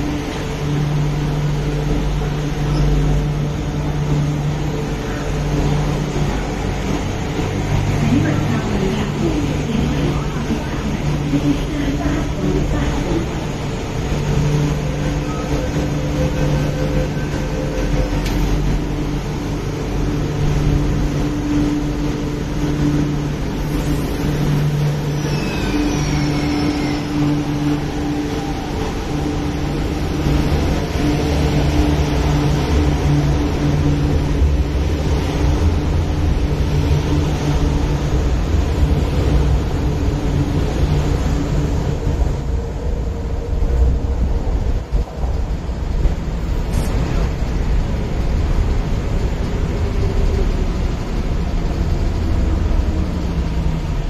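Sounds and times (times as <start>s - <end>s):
train cars rumbling on rails: 0.0s - 54.0s
train electrical hum: 0.0s - 54.0s.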